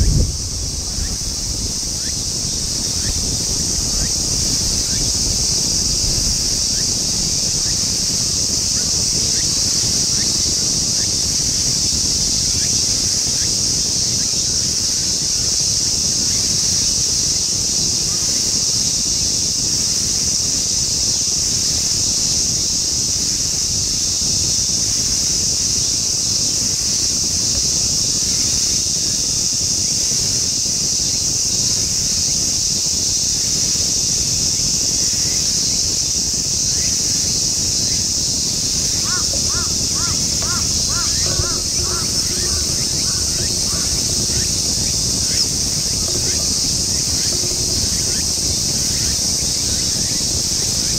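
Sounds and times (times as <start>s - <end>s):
wind rumble on microphone: 0.0s - 50.9s.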